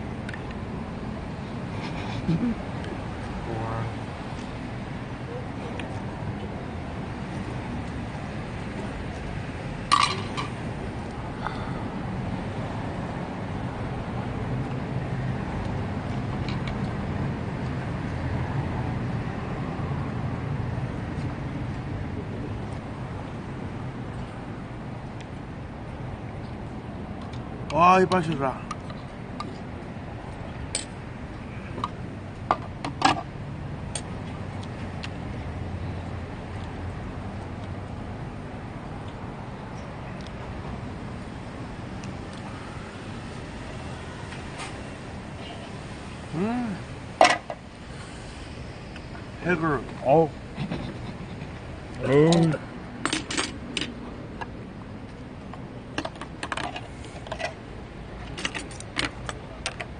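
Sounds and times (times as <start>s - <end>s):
low outdoor background: 0.0s - 59.9s
street traffic hum: 0.0s - 59.9s.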